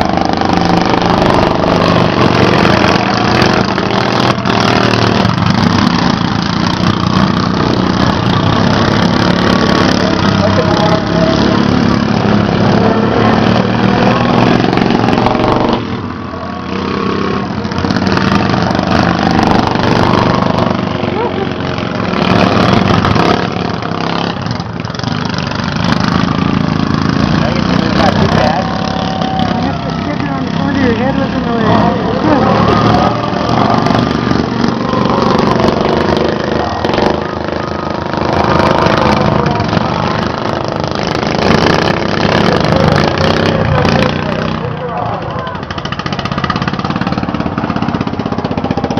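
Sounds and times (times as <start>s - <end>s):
lawn mower engines running: 0.0s - 48.9s.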